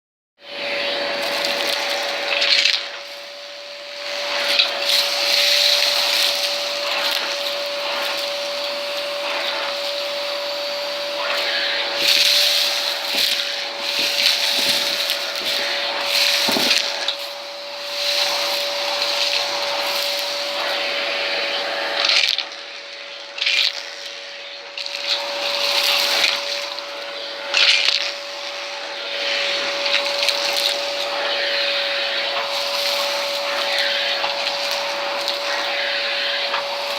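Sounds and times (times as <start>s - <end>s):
small vacuum cleaner running: 0.4s - 36.9s.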